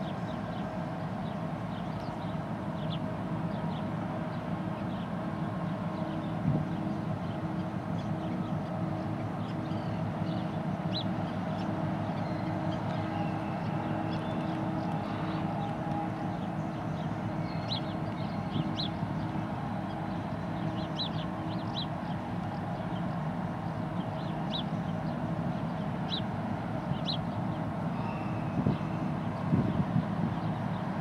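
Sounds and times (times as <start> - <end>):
ship engines droning: 0.0 - 31.0.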